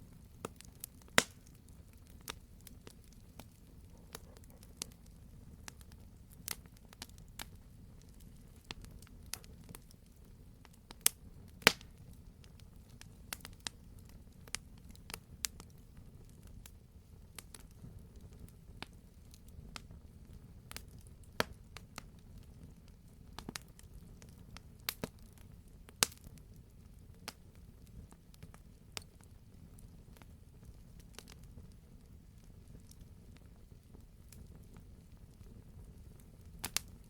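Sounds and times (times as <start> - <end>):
fire low rumble: 0.0 - 37.0
wood fire crackling and popping: 0.0 - 37.0.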